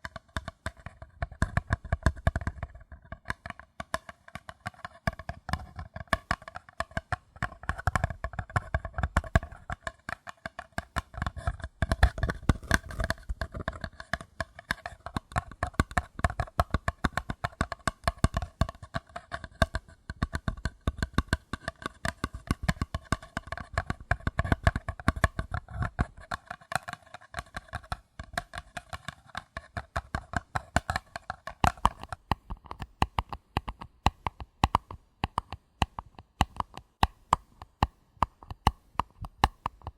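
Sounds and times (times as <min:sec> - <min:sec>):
paper cups tapped rapidly: 0:00.0 - 0:39.9.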